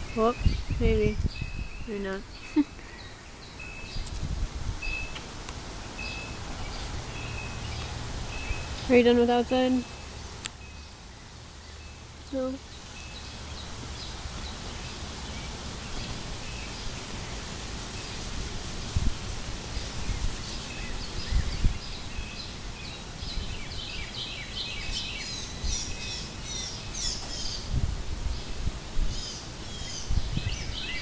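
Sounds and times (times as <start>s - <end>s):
songbirds chirping and twittering: 0.0s - 31.0s.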